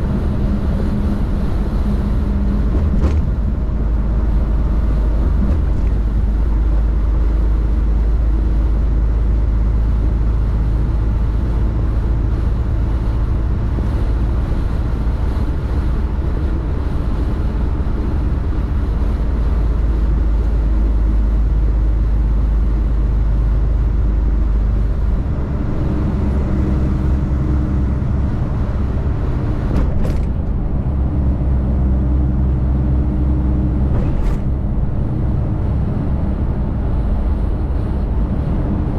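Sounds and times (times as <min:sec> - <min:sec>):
diesel truck engine running: 0:00.0 - 0:38.9
road noise: 0:00.0 - 0:38.9.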